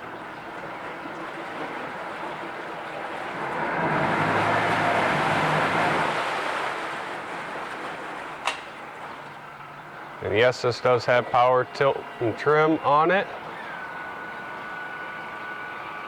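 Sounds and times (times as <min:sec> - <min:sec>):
outboard motor running: 0:00.0 - 0:16.0
propeller churning water: 0:00.0 - 0:16.0.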